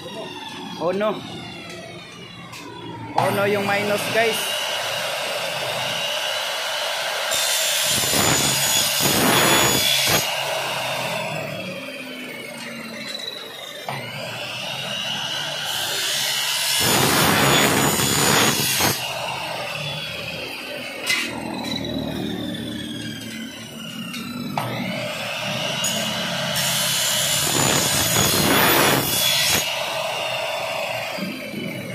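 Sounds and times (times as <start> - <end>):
miter saw cutting aluminum: 0.0 - 31.9
saw motor whine: 0.0 - 31.9.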